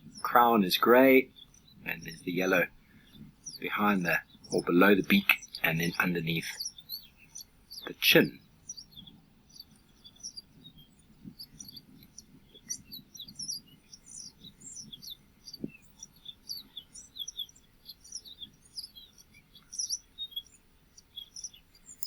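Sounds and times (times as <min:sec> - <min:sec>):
canary singing: 0:00.0 - 0:22.0.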